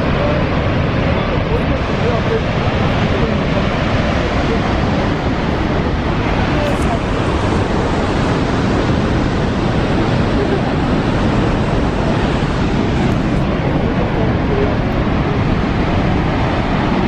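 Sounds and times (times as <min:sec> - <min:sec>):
rush of falling water: 0:00.0 - 0:17.0.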